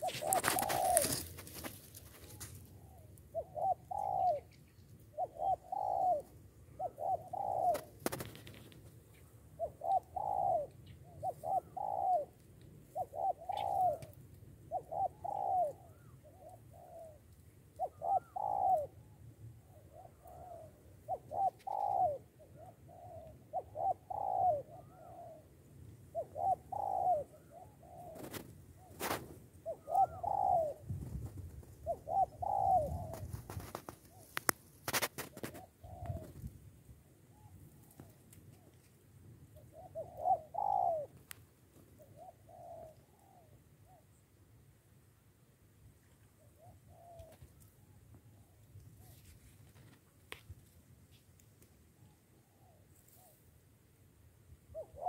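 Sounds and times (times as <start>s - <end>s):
dove cooing: 0.0s - 44.2s, 46.3s - 50.0s, 52.0s - 53.5s, 54.6s - 55.0s.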